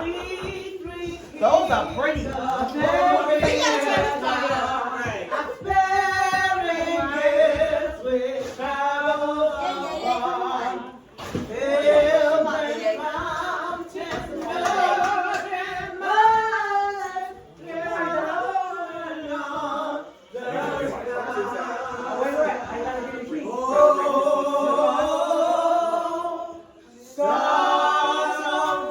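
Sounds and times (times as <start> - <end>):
voices singing together: 0.0 - 28.9.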